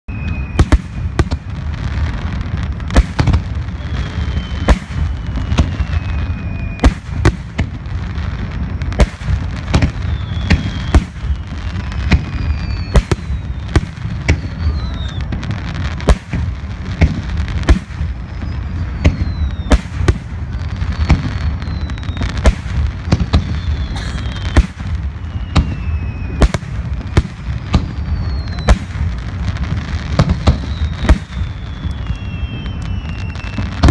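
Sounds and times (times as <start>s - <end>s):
fireworks falling whistles: 0.0s - 33.9s
fireworks bangs: 0.1s - 33.9s.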